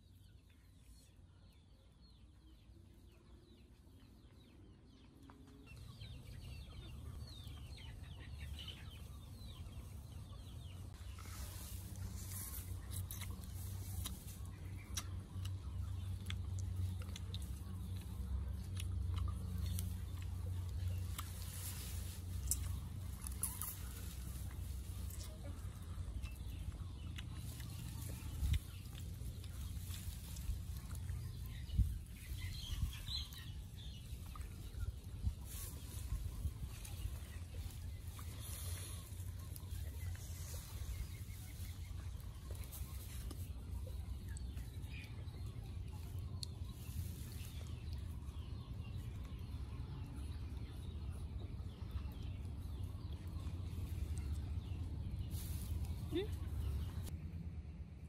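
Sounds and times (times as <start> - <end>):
chickens chirping: 0.0 - 57.6
low steady rumble: 5.7 - 58.0.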